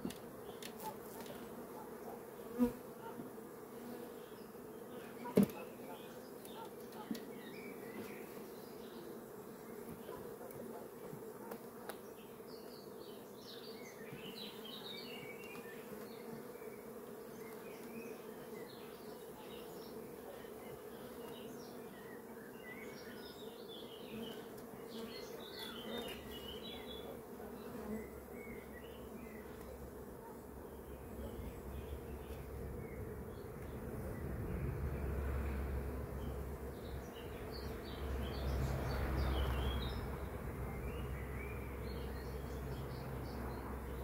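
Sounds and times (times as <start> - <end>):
honeybees buzzing: 0.0 - 44.0.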